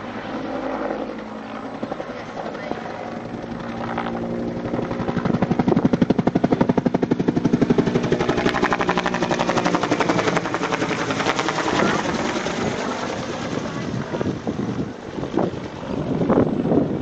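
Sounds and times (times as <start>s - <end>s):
helicopter turbine: 0.0s - 17.0s.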